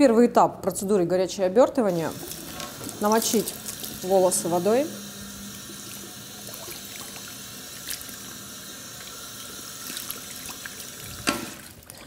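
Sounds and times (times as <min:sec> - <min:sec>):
shower spray water splashing: 0:01.9 - 0:11.8.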